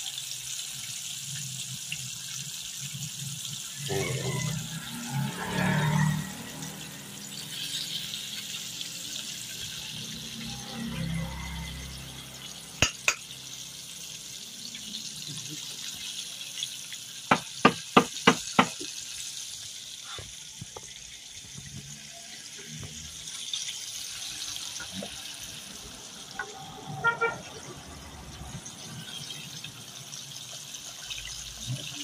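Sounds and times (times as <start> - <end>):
oil sizzling in a wok: 0.0 - 32.0.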